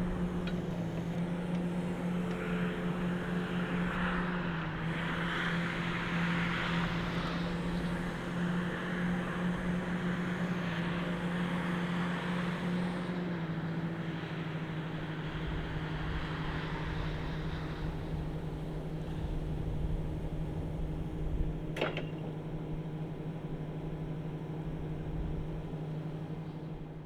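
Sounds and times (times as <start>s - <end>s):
forklift engine humming: 0.0s - 27.0s.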